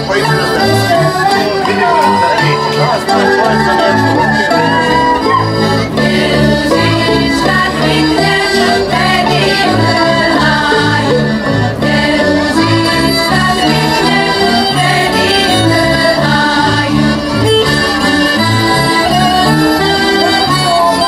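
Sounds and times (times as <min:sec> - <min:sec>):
fiddle melody: 0:00.0 - 0:21.0
folk band dance tune: 0:00.0 - 0:21.0.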